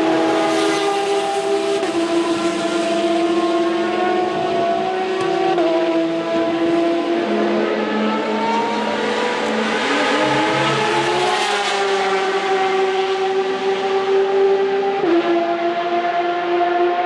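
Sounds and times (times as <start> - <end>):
racing car engines at high revs: 0.0 - 17.0.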